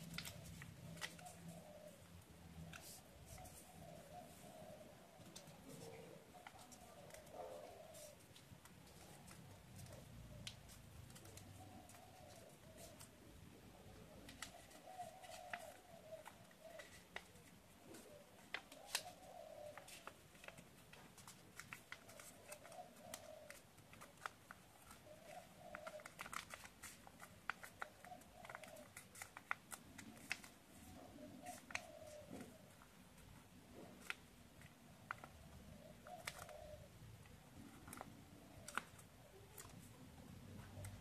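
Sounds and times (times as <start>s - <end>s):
paper crinkling and crackling: 0.0s - 41.0s
pigeon cooing: 0.0s - 41.0s.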